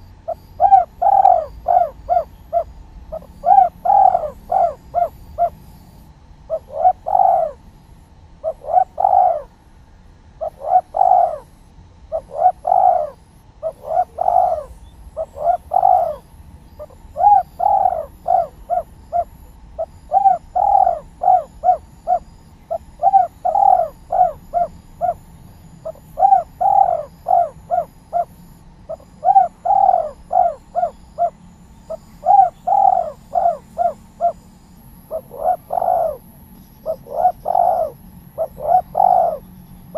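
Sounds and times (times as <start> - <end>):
dove cooing: 0.0 - 7.7, 8.4 - 9.6, 10.4 - 39.9.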